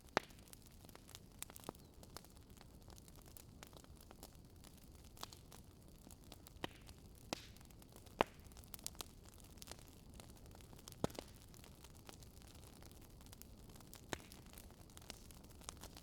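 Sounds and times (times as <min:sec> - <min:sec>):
burning wood snapping and popping: 0:00.0 - 0:16.0
fire soft low hiss: 0:00.0 - 0:16.0.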